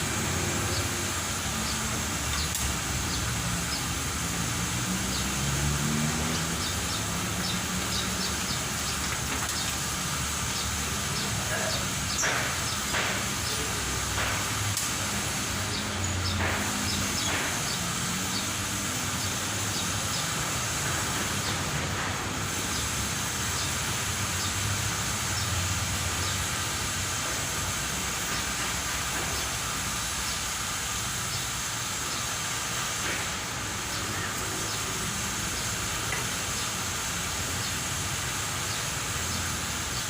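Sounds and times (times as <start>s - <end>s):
water spraying hiss: 0.0s - 40.0s.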